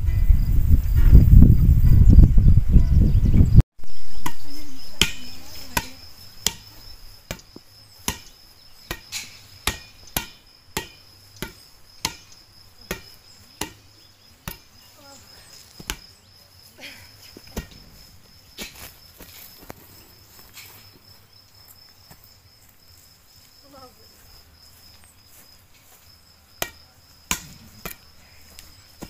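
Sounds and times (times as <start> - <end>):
insect trill: 3.8 - 29.0.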